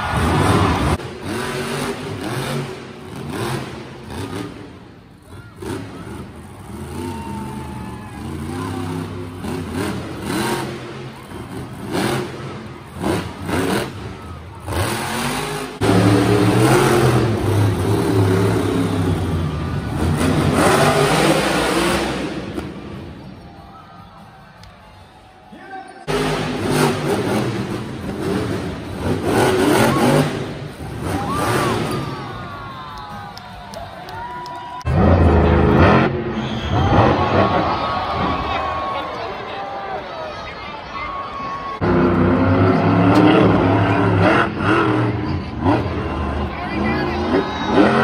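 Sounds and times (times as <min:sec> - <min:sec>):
monster truck engines revving: 0:00.0 - 0:48.0.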